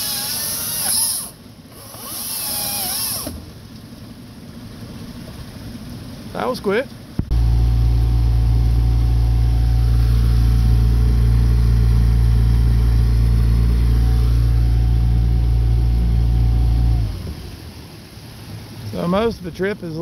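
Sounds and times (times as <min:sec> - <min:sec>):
outboard motor droning: 0:00.0 - 0:20.0.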